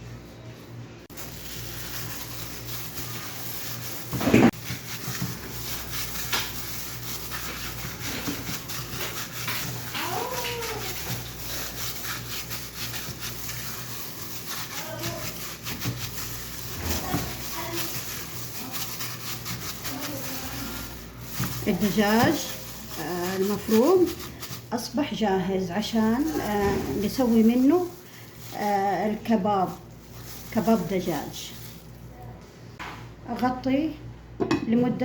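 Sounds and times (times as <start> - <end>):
hands mixing minced meat: 1.1 - 32.6.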